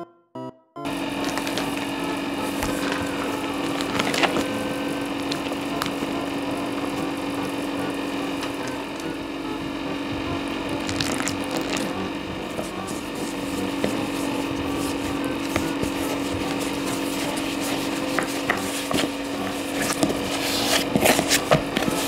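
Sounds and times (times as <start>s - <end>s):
steady hum: 0.8s - 22.0s
crackling rustling handling noises: 0.9s - 22.0s.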